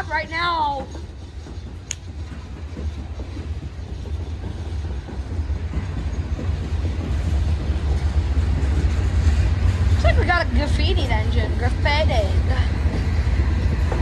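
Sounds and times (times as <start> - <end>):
freight train rumbling on rails: 0.0 - 14.0.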